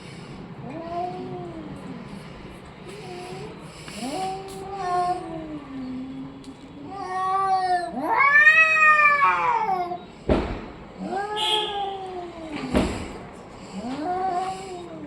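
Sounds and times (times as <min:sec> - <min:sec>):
cat meowing: 0:00.6 - 0:02.1, 0:03.0 - 0:10.1, 0:11.0 - 0:15.0.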